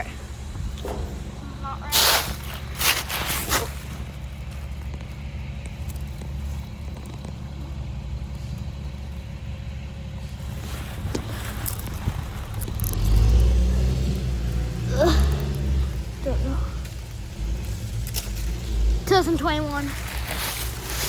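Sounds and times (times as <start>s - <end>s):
air conditioning units humming: 0.0s - 21.0s.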